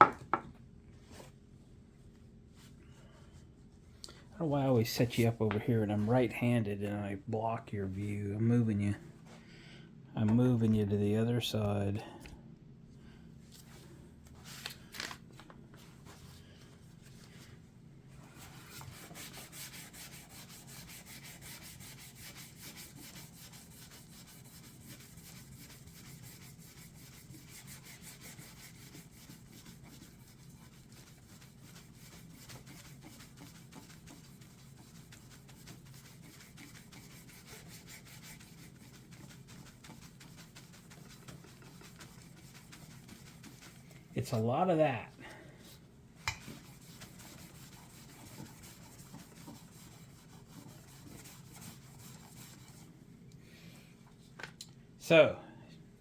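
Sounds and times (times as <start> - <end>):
low steady hum: 0.1 - 56.0.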